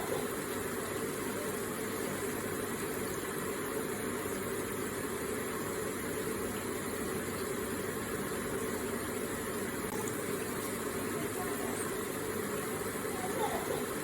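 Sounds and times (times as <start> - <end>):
water flowing from water feature: 0.0 - 14.0.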